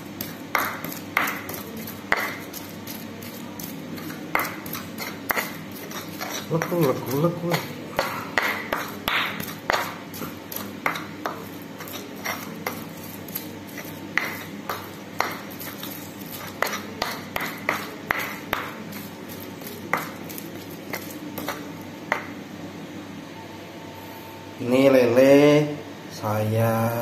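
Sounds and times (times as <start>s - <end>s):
stone pestle scraping in mortar: 0.0s - 22.2s.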